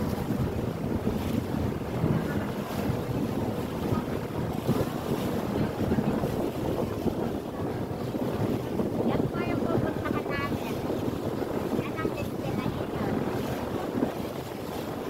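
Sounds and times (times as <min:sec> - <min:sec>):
sea water sloshing: 0:00.0 - 0:15.0
wind buffeting microphone: 0:00.0 - 0:15.0.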